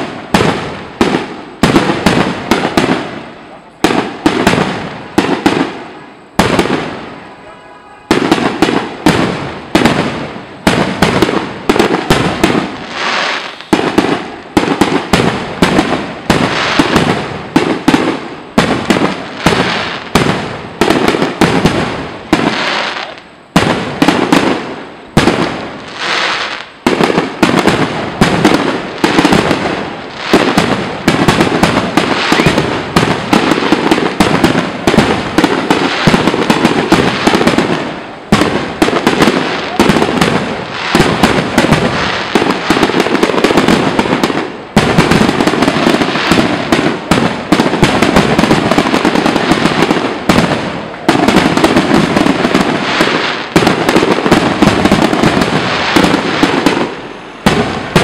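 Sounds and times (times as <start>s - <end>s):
firework crackle: 0.0s - 58.0s.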